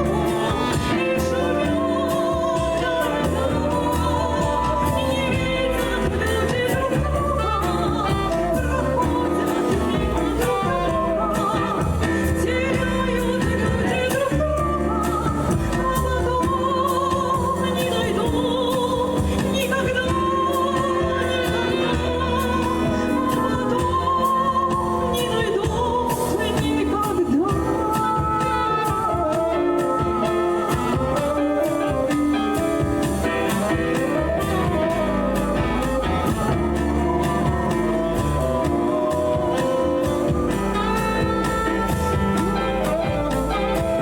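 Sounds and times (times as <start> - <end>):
instrumental backing: 0.0 - 44.0
person singing a ballad: 0.0 - 44.0.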